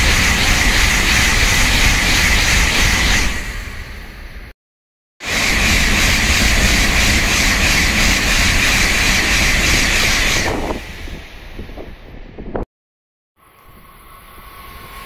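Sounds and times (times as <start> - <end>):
rush of wheel and air noise: 0.0 - 4.5, 5.2 - 12.6, 13.4 - 15.0
train passing: 0.0 - 4.5, 5.2 - 12.4, 13.4 - 15.0.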